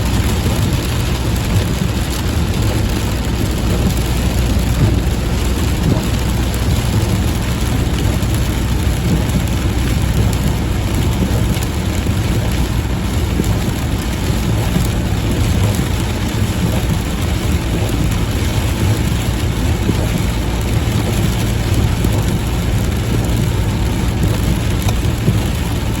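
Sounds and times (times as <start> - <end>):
continuous low rumble: 0.0 - 26.0
rain hissing: 0.0 - 26.0.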